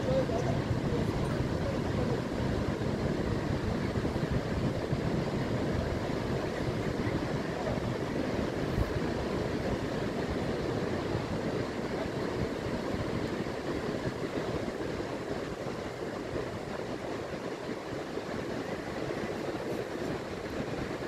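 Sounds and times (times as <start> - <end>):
surf washing over flat: 0.0 - 21.0
wind buffeting microphone: 0.0 - 21.0.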